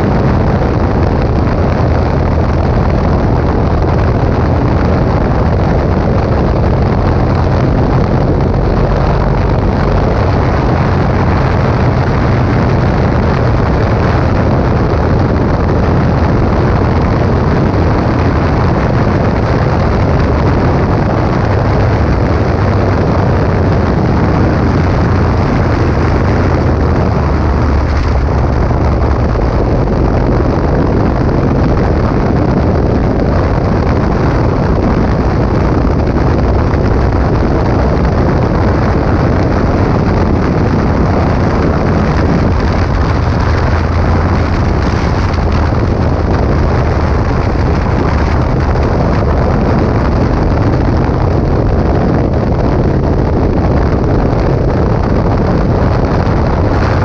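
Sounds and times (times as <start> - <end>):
motorcycle engine and tyre noise: 0.0 - 57.0
wind buffeting microphone: 0.0 - 57.0.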